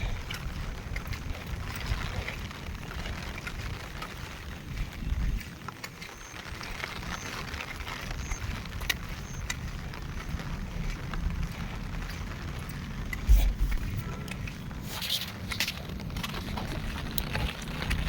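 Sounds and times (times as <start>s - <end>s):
heavy rain falling: 0.0s - 18.0s
raindrops clicking: 0.0s - 18.0s
wind rumble on microphone: 0.0s - 18.0s.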